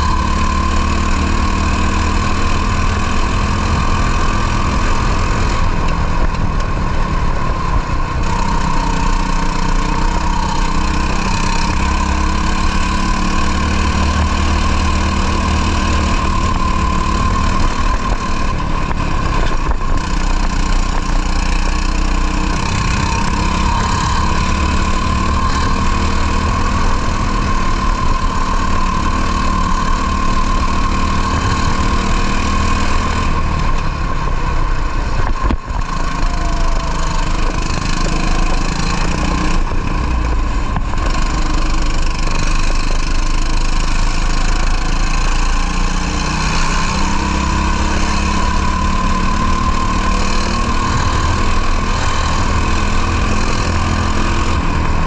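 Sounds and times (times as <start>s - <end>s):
racing kart engine running hard: 0.0s - 55.0s.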